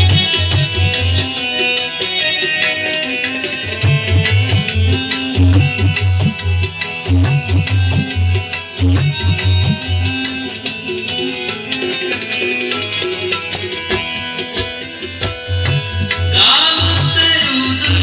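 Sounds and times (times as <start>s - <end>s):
sustained melody: 0.0s - 18.0s
tabla and drums: 0.0s - 18.0s.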